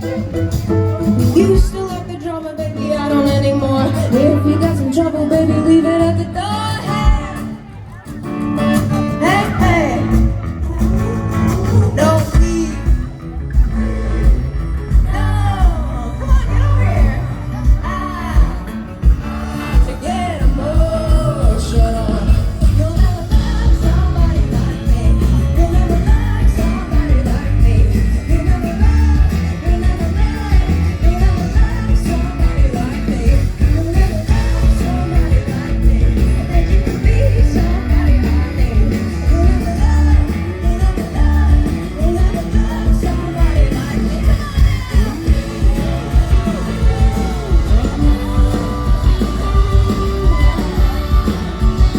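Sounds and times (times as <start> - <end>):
drums and bass beat: 0.0 - 51.9
live pop-rock band: 0.0 - 51.9
person singing: 1.2 - 7.8, 8.6 - 51.9.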